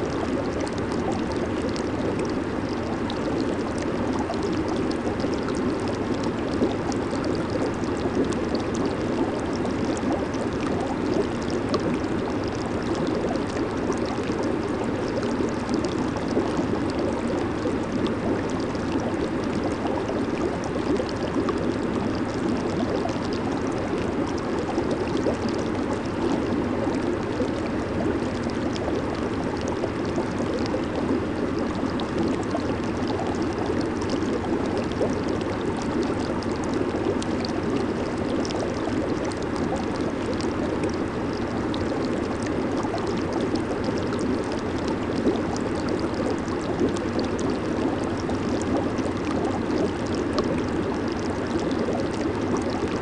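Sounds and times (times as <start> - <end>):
jacuzzi water bubbling: 0.0 - 53.0.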